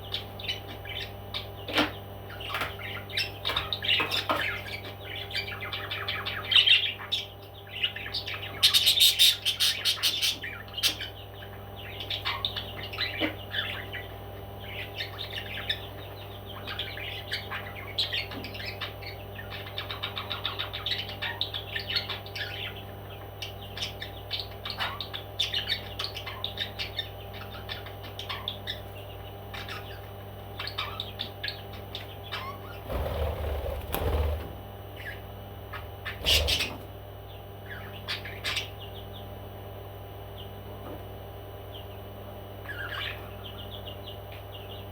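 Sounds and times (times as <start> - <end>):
parrots chirping and chattering: 0.0 - 44.9
steady low hum: 0.0 - 44.9.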